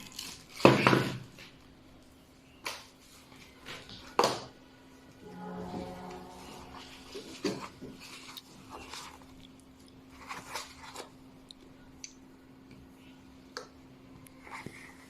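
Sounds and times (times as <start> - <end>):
faint steady hum: 1.2 - 15.0.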